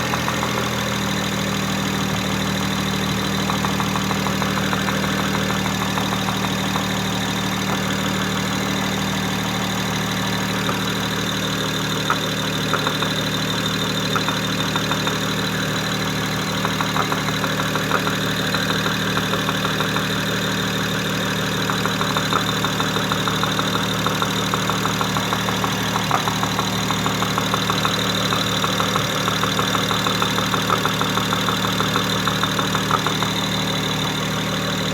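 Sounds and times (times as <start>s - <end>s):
engine idling: 0.0s - 34.9s
ticking engine knock: 0.0s - 34.9s.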